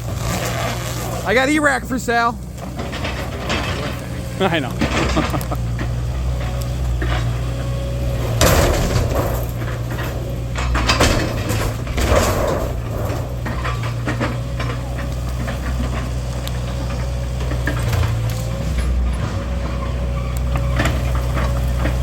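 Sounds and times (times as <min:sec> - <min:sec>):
debris crashing and clanking: 0:00.0 - 0:22.0
excavator diesel engine running: 0:00.0 - 0:22.0.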